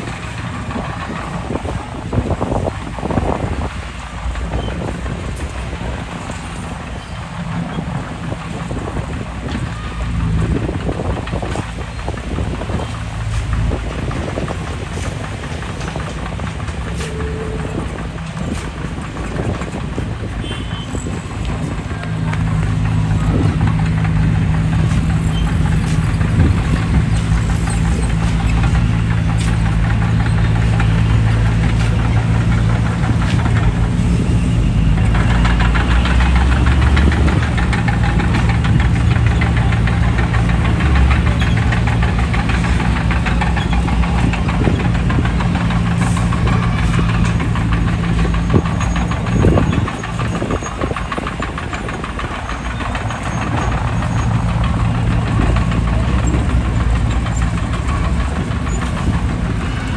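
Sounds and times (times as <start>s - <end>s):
bulldozer diesel engine running: 0.0s - 59.9s
dense rattling clatter: 0.0s - 59.9s.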